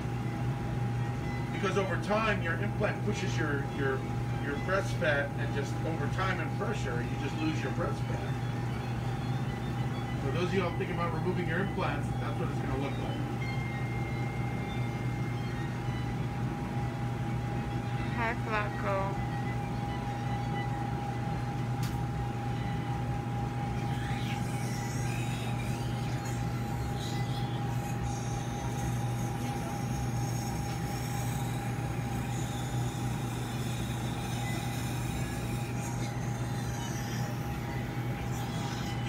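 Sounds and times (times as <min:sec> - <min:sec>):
equipment low hum: 0:00.0 - 0:39.0
constant high tone: 0:00.1 - 0:39.0.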